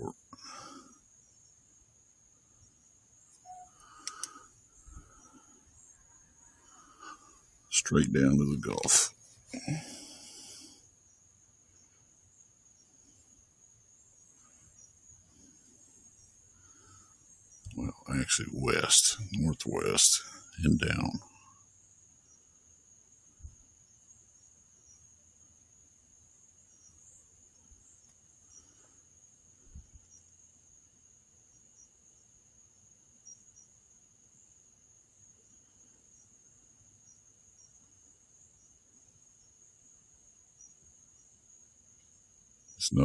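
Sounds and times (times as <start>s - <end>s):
crickets trilling: 0.0s - 43.0s.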